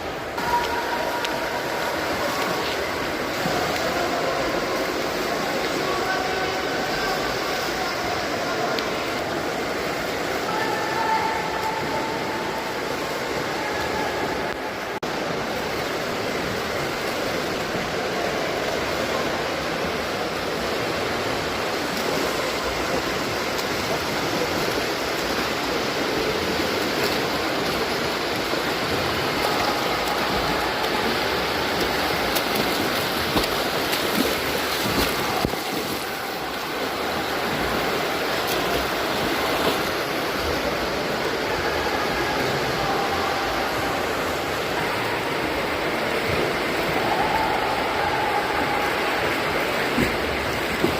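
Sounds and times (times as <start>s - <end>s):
swimming pool water churning: 0.0s - 50.9s
water splashes: 0.0s - 50.9s.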